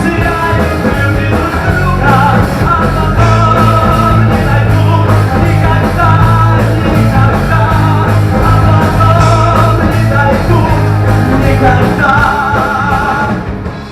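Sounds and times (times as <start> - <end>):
rock band music: 0.0 - 13.9.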